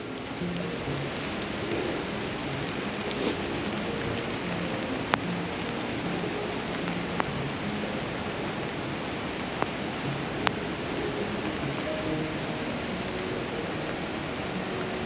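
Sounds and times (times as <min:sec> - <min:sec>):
raindrops tapping: 0:00.0 - 0:15.0
steady rain hiss: 0:00.0 - 0:15.0.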